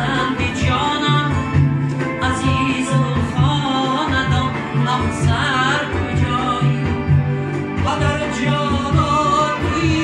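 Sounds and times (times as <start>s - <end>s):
instrumental backing with pulsing bass: 0.0s - 10.0s
man singing: 0.0s - 10.0s.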